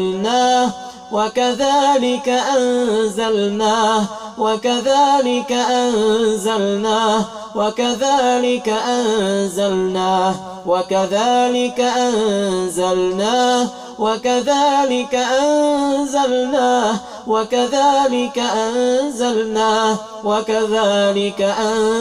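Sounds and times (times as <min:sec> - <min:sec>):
man chanting melodic recitation: 0:00.0 - 0:22.0.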